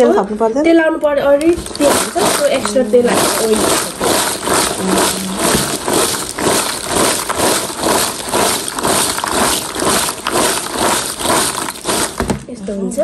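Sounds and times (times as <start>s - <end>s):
fried chips rattling in plastic tub: 1.4s - 12.7s.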